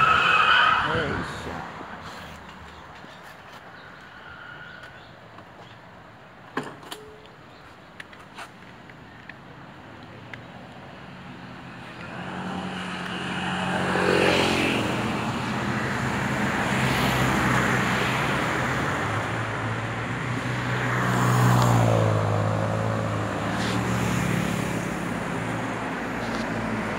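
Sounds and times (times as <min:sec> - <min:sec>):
vehicles passing: 0:00.0 - 0:26.9.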